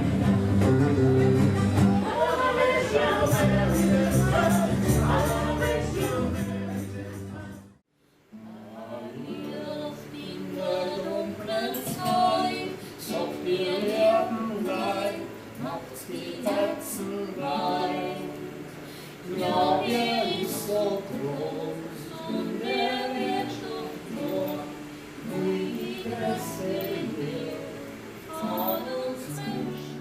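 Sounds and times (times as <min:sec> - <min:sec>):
group of voices singing: 0:00.0 - 0:07.8, 0:08.5 - 0:30.0.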